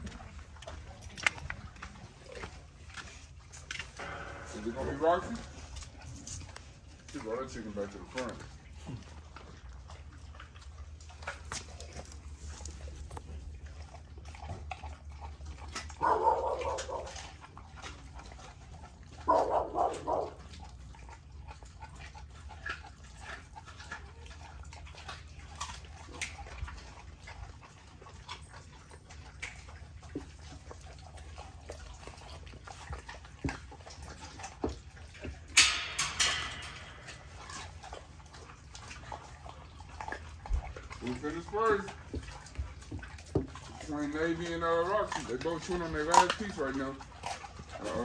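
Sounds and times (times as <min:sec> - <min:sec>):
dogs chewing raw chicken: 0:00.0 - 0:48.0
dog vocalisations: 0:03.7 - 0:48.0.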